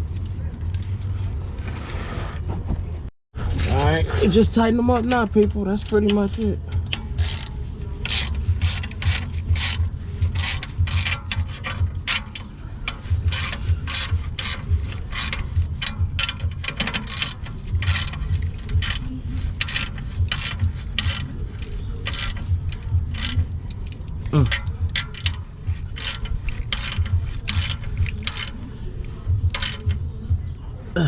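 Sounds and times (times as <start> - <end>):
steady low rumble: 2.6 - 31.0
hand ratchet wrench rasping: 5.0 - 30.6.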